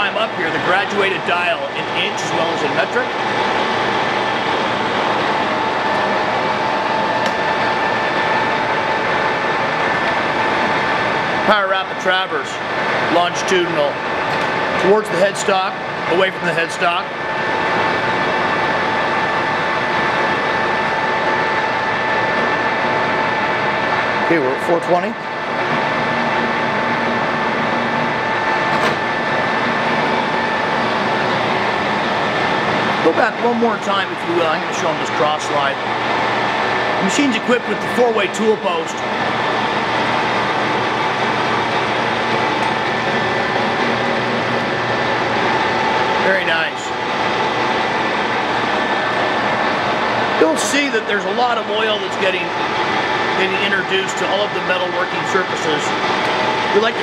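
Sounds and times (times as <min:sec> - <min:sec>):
lathe whirring with gear whine: 0:00.0 - 0:57.0.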